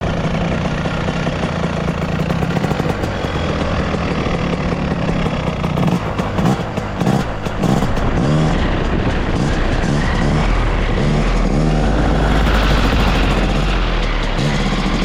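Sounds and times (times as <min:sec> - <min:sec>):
two-stroke engine running: 0:00.0 - 0:15.0.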